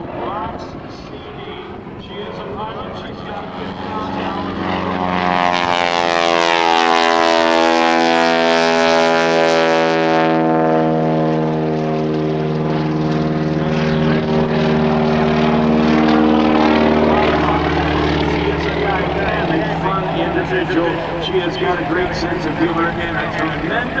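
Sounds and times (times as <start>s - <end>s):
biplane engine droning past: 0.0s - 24.0s.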